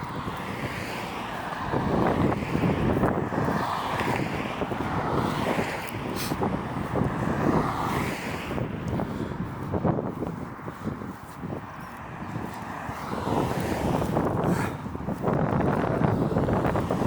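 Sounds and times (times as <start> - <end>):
road traffic passing: 0.0 - 17.0
wind noise on microphone: 0.0 - 17.0.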